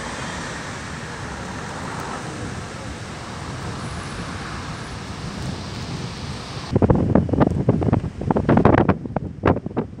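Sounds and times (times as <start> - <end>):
road traffic noise: 0.0 - 10.0
wind buffeting microphone: 0.0 - 10.0.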